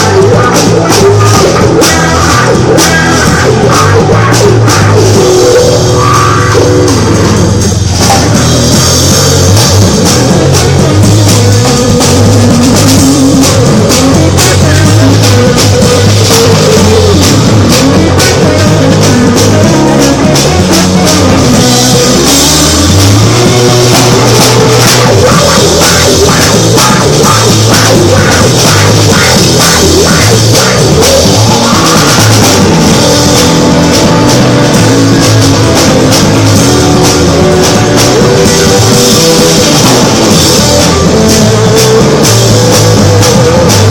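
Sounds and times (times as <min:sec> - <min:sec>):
loud rock music: 0:00.0 - 0:43.9.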